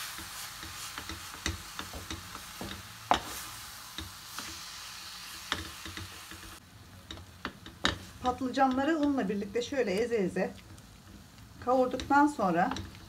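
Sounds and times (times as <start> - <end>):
faint sizzle: 0.0 - 13.0
wooden spoon scraping a pan: 0.0 - 13.0.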